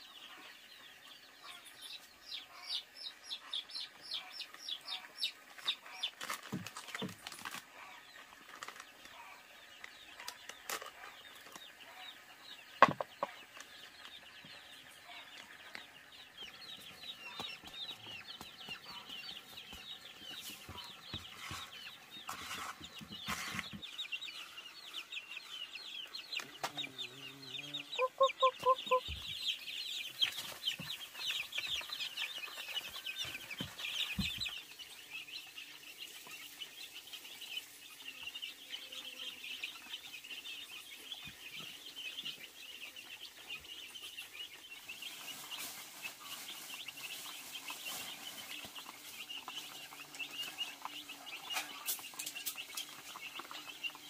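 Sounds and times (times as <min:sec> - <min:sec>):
chickens clucking: 0:00.0 - 0:54.0
chicks peeping and chirping: 0:00.0 - 0:54.0.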